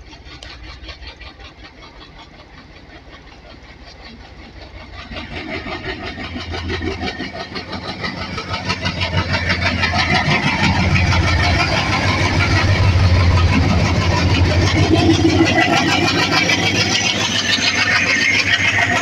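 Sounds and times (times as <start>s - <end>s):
diesel locomotive engine throbbing: 0.0s - 19.0s.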